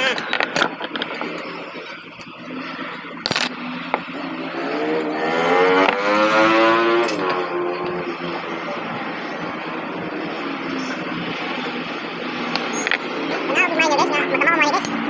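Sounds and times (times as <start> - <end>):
vehicle engine passing by: 2.5 - 15.0.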